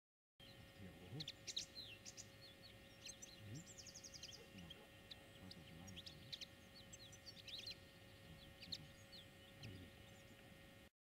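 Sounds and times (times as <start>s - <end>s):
bird trill: 0.4s - 10.4s
lower short bird calls: 0.4s - 10.4s
small birds chirping: 0.4s - 10.8s
faint steady tone: 0.4s - 10.9s.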